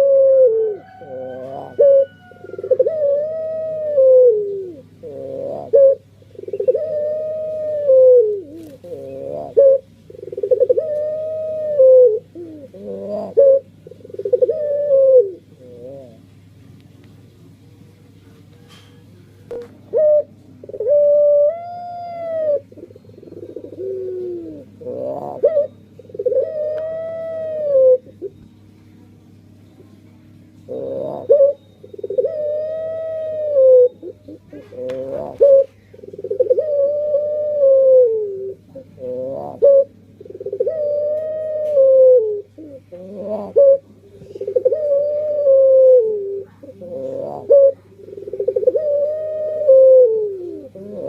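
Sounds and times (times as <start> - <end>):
dove cooing: 0.0 - 16.3, 18.6 - 28.7, 29.4 - 51.0.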